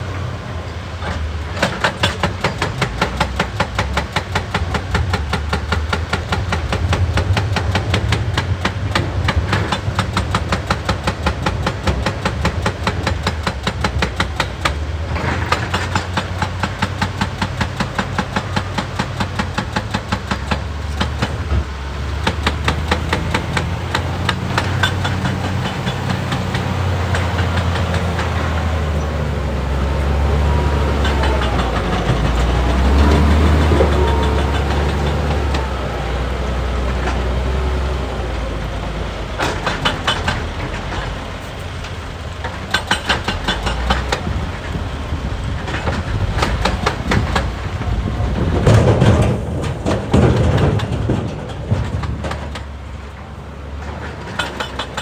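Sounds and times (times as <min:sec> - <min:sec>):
excavator engine running: 0:00.0 - 0:55.0
hydraulic breaker hammering rock: 0:01.0 - 0:55.0.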